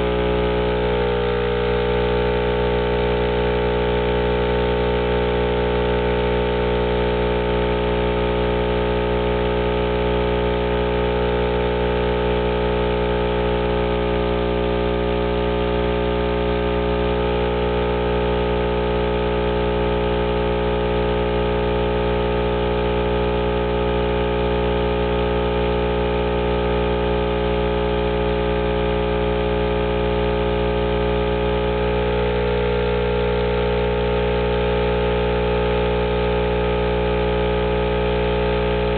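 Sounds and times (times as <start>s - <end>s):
subwoofer buzzing hum: 0.0s - 38.9s.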